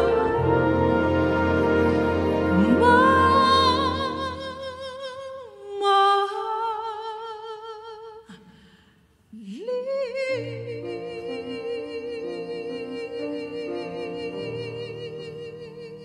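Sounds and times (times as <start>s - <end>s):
woman singing with vibrato: 0.0s - 8.5s, 9.3s - 16.0s.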